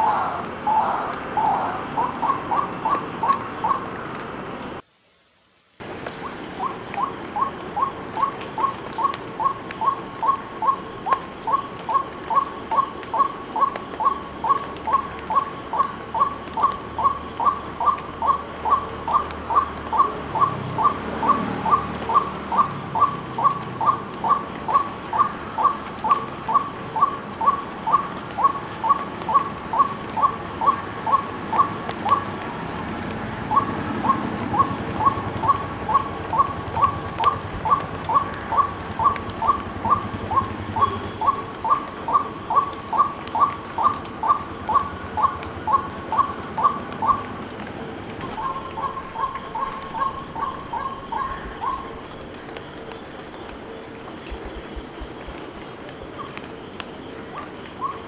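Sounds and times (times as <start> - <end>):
waterhen calling: 0.0 - 4.2, 6.1 - 32.5, 33.4 - 58.0.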